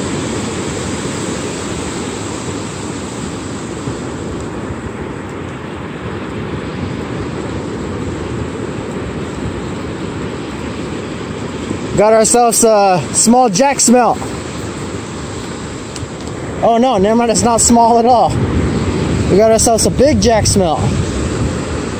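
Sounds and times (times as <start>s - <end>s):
ocean surf: 0.0s - 21.9s
wind on microphone: 0.0s - 21.9s.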